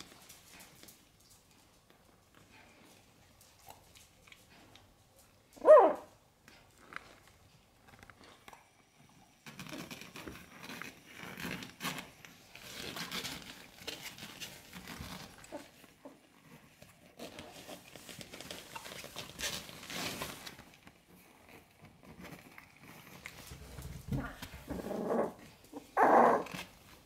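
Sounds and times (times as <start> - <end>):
puppies suckling clicks and smacks: 0.0 - 8.8, 9.4 - 27.0.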